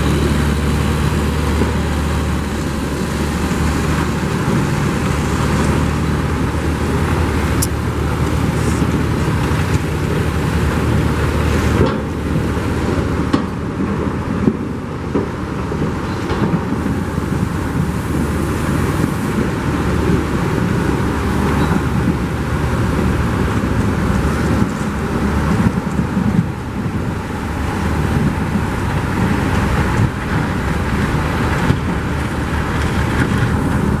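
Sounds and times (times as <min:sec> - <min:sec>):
diesel engines rumbling: 0:00.0 - 0:34.0.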